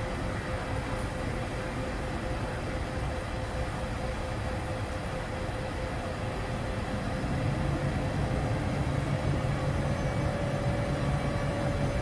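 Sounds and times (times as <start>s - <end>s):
thin pulsing tone: 0.0s - 12.0s
train rumbling on track: 0.0s - 12.0s.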